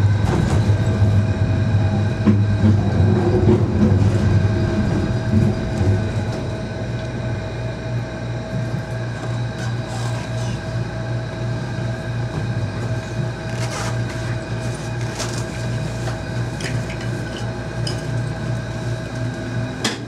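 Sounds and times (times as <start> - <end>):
low pulsing hum: 0.0 - 20.0.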